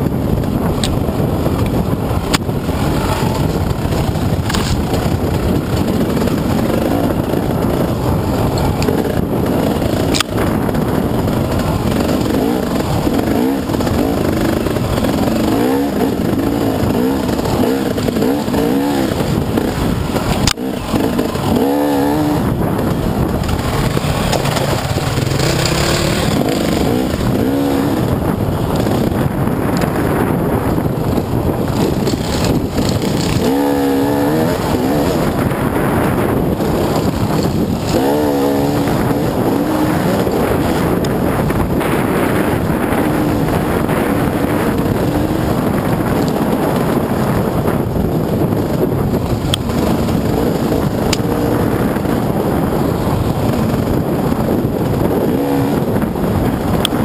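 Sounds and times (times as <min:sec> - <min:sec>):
dirt bike engine revving: 0:00.0 - 0:57.0
wind buffeting microphone: 0:00.0 - 0:57.0.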